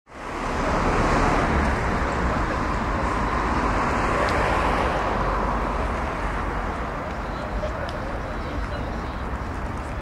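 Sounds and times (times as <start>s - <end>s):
outdoor street noise: 0.1s - 10.0s.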